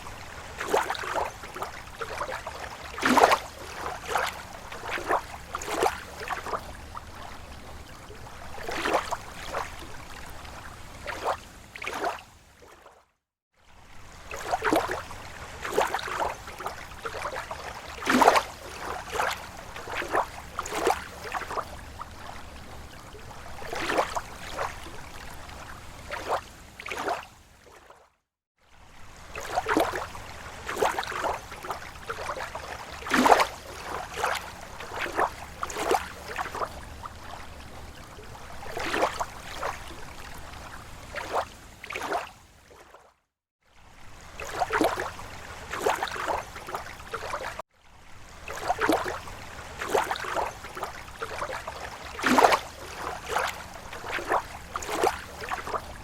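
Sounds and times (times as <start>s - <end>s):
water lapping against shore: 0.0s - 56.0s.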